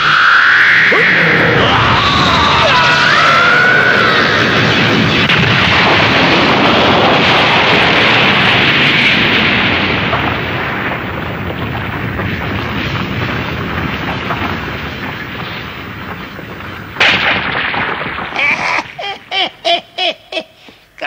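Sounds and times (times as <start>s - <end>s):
long rumbling explosion: 0.0s - 19.4s.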